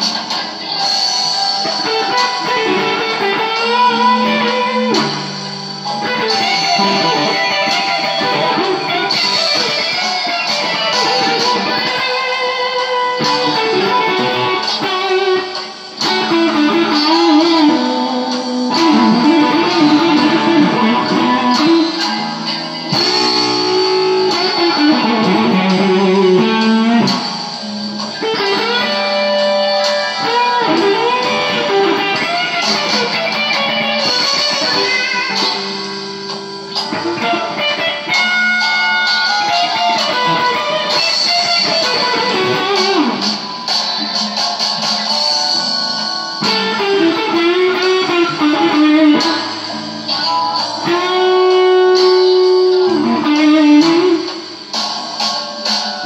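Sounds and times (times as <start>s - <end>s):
electric guitar playing blues: 1.6s - 43.6s, 46.3s - 54.8s.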